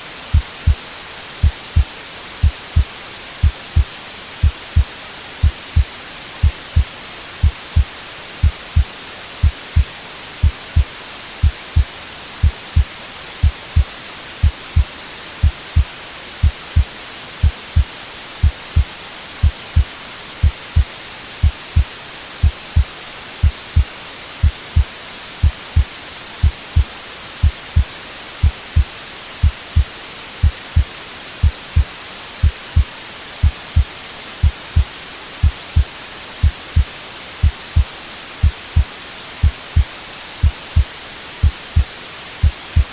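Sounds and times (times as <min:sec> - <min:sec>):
white noise hiss: 0:00.0 - 0:42.9
heartbeat thumps: 0:00.3 - 0:00.8, 0:01.4 - 0:42.9.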